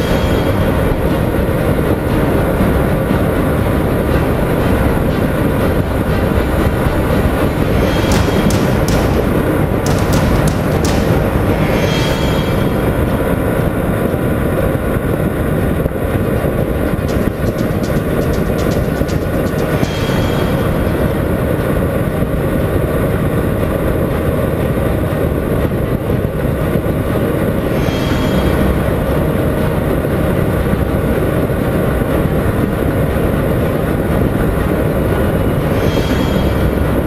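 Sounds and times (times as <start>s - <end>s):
wind rush: 0.0s - 37.0s.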